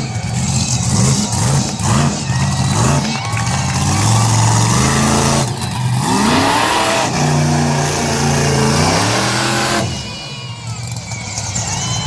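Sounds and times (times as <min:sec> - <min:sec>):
truck engine revving hard: 0:00.0 - 0:11.7.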